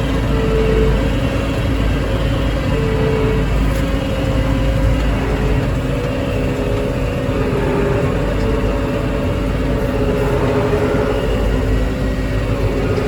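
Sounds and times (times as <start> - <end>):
farm machine engine running: 0.0 - 13.0
machine whine: 0.0 - 13.0.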